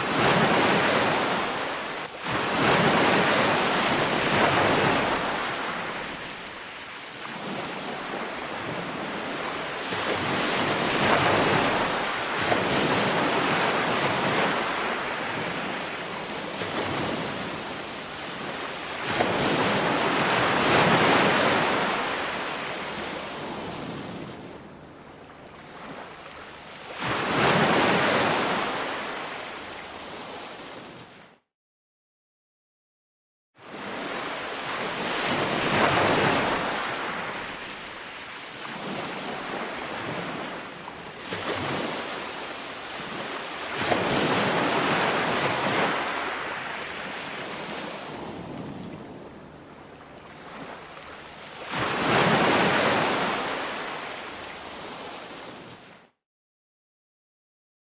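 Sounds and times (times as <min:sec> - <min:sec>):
ocean waves breaking: 0:00.0 - 0:31.2, 0:33.6 - 0:56.0.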